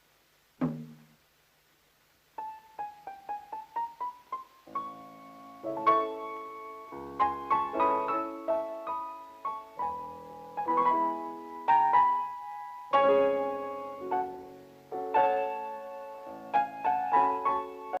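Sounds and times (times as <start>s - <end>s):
piano chords and melody: 2.4s - 18.0s.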